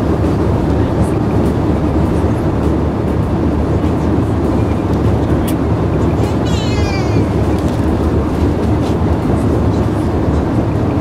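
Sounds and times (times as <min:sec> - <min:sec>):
jet engine cabin roar: 0:00.0 - 0:11.0.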